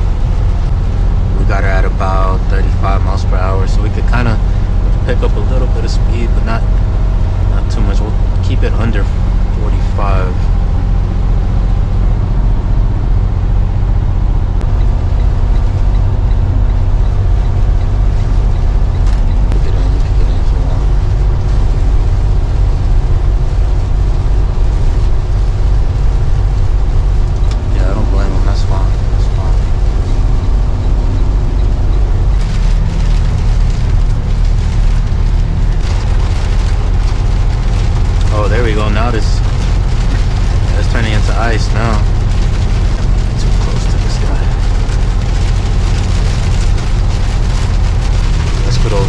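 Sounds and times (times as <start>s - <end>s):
truck diesel engine rumble: 0.0s - 49.0s.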